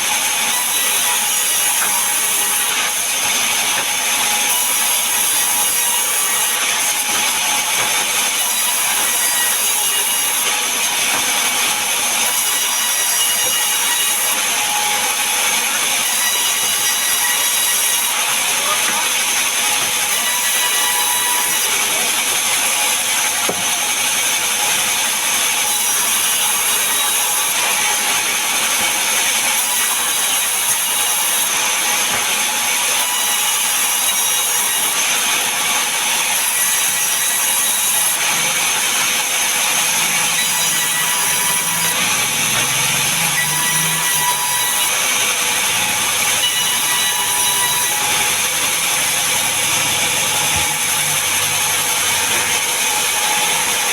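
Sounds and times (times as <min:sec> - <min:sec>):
power saw cutting wood: 0:00.0 - 0:53.9.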